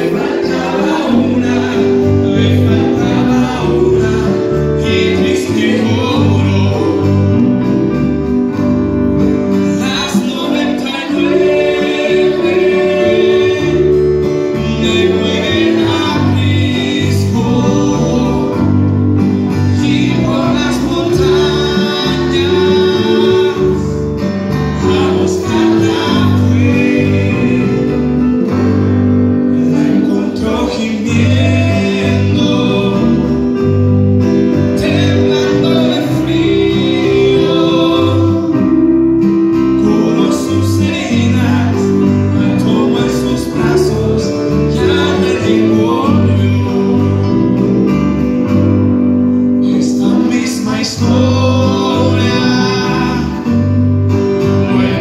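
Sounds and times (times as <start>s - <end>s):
man singing into a microphone: 0.0s - 8.0s, 9.6s - 28.4s, 29.4s - 39.0s, 39.7s - 48.3s, 49.4s - 55.0s
strummed acoustic guitar: 0.0s - 55.0s
worship band playing: 0.0s - 55.0s.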